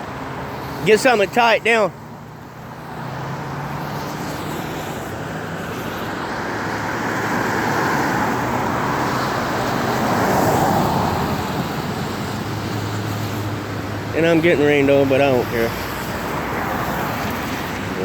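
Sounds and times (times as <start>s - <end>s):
highway traffic on wet pavement: 0.0s - 18.0s.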